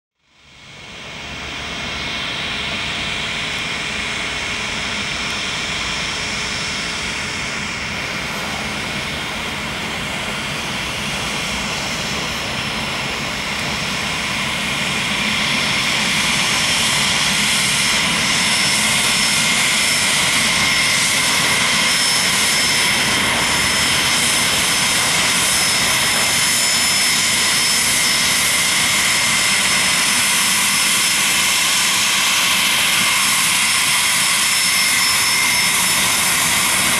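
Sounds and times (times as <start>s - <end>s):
jet engines running: 0.4s - 36.9s.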